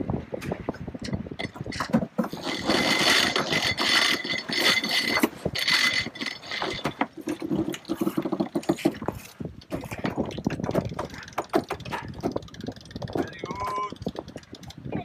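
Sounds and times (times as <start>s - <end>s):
winch ratcheting: 1.1s - 15.0s.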